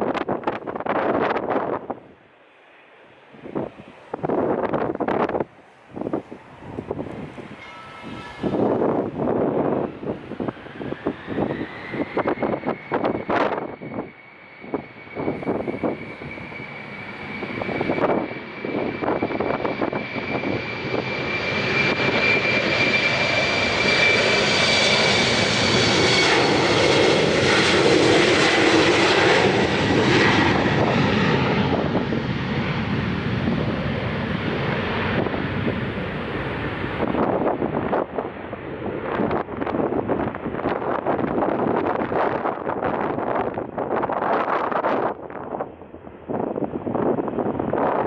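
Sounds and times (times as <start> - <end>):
wind buffeting microphone: 0.0 - 2.3, 3.1 - 48.0
jet airliner passing: 0.0 - 48.0.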